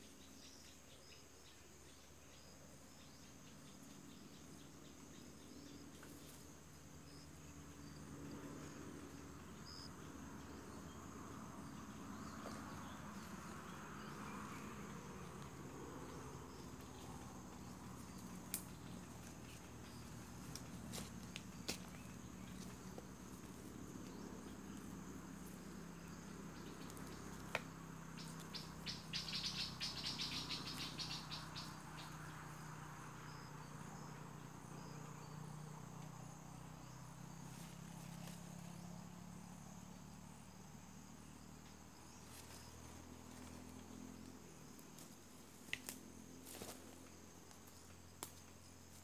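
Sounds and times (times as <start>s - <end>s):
insects buzzing: 0.0s - 49.0s
rapid pulsing insect call: 0.0s - 49.0s.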